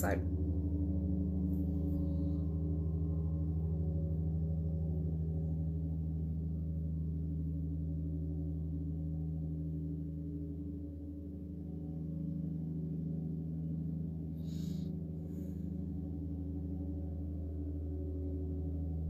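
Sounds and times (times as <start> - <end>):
muffled lawnmower engine drone: 0.0 - 19.0.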